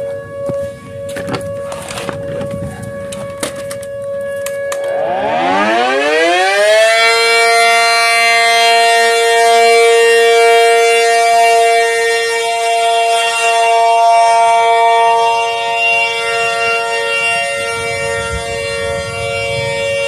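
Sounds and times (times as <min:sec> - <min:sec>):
warning siren wailing: 0:00.0 - 0:20.0.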